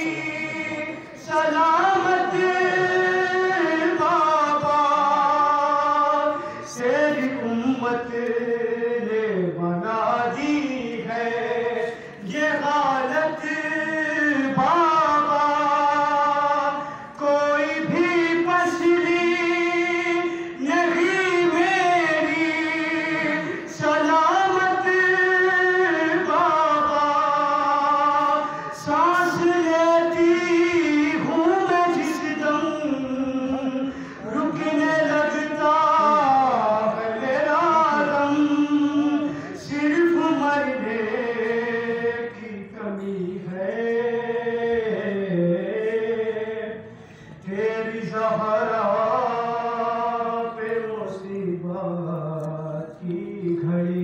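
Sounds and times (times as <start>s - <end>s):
man chanting a lament: 0.0s - 54.0s.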